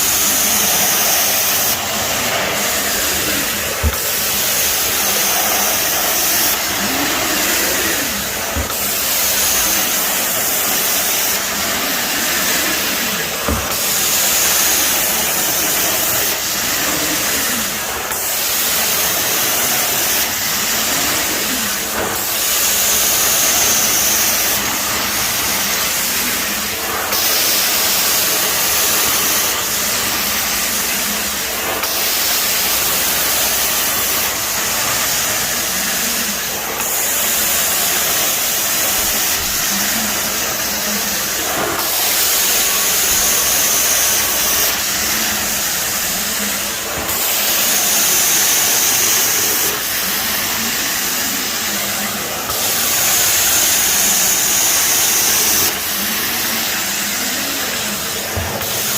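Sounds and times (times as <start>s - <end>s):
carpet extraction wand hissing: 0.0s - 58.9s.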